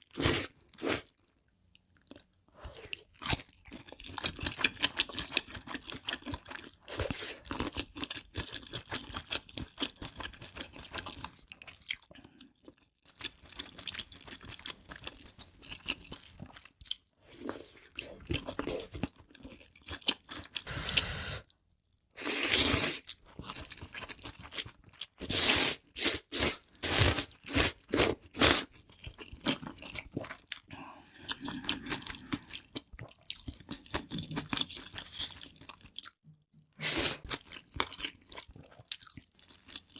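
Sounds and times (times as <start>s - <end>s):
person chewing crunchy food: 2.0s - 39.9s.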